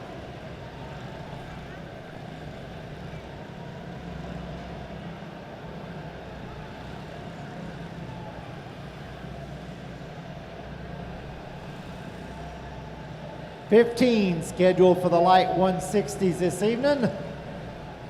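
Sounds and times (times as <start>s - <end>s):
small race car engines droning: 0.0s - 18.0s.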